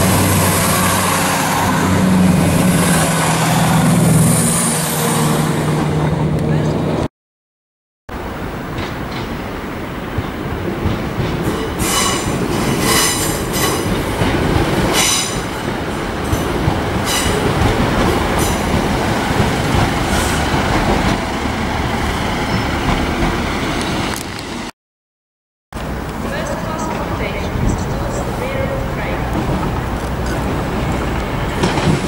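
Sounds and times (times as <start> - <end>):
diesel train passing: 0.0 - 7.1, 8.1 - 24.7, 25.8 - 32.0.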